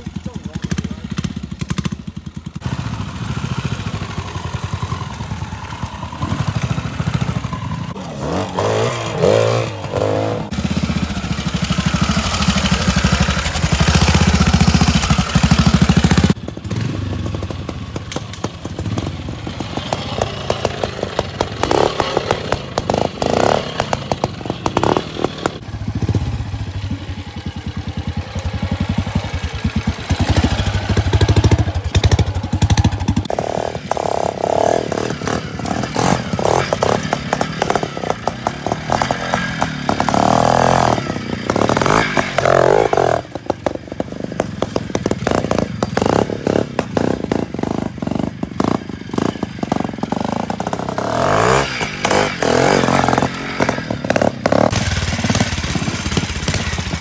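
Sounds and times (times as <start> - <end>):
motorcycle engines with throttle blips: 0.0 - 57.0.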